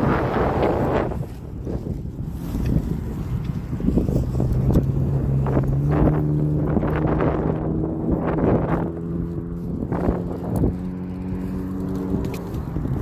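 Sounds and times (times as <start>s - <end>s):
vehicle engine running: 0.0s - 13.0s
wind on microphone: 0.0s - 13.0s.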